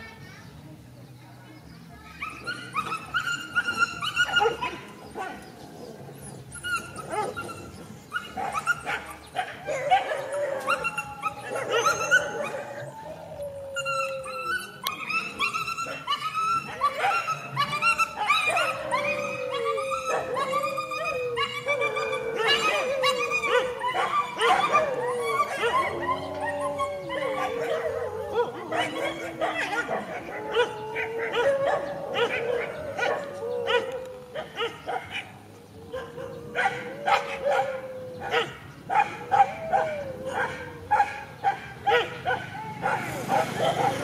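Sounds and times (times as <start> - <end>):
dogs barking: 2.2 - 44.0
dogs yelping and whining: 2.2 - 44.0.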